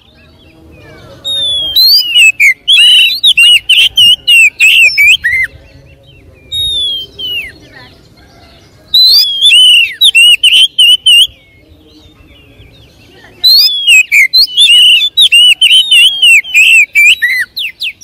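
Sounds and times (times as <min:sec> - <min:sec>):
bird singing whistled notes: 0:00.0 - 0:18.0.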